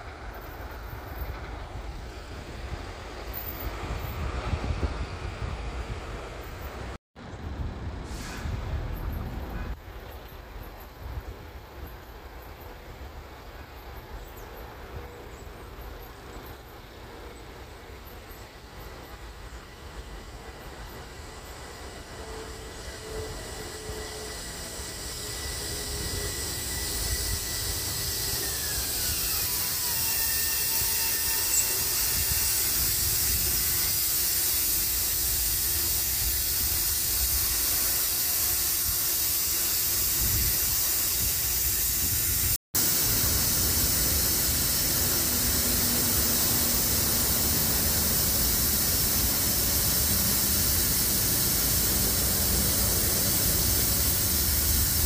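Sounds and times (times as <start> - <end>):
rushing hiss of wheels and air: 0.0 - 7.0, 7.6 - 55.0
train whine: 0.0 - 55.0.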